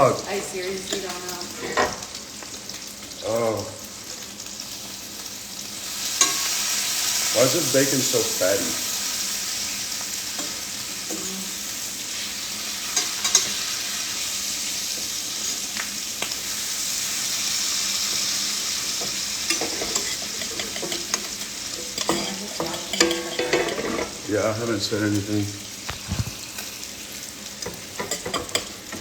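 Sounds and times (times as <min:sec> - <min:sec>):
bacon sizzling in a pan: 0:00.0 - 0:29.0.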